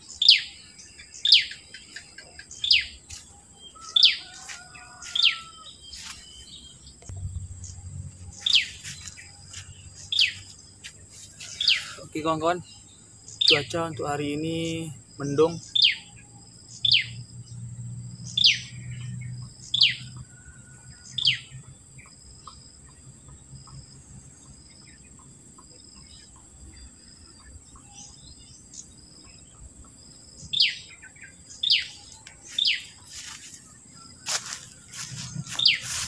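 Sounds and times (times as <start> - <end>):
high insect drone: 0.0 - 36.0.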